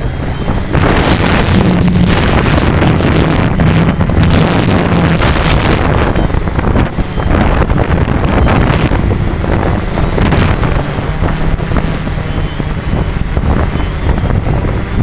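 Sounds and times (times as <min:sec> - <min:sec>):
drone propellers buzzing: 0:00.0 - 0:15.0
wind buffeting microphone: 0:00.0 - 0:15.0.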